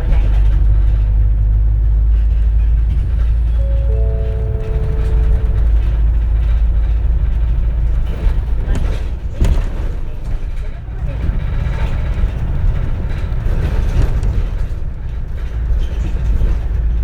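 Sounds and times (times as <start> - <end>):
bus engine low rumble: 0.0 - 17.0.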